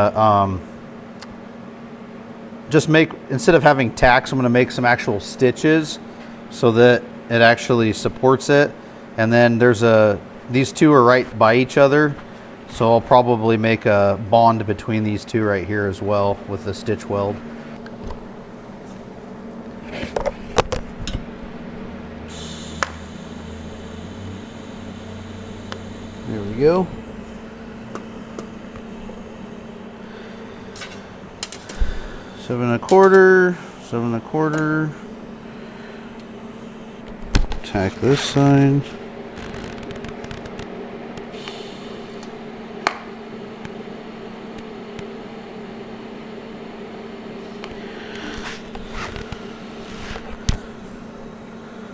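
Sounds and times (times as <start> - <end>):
electrical hum: 0.0 - 51.9.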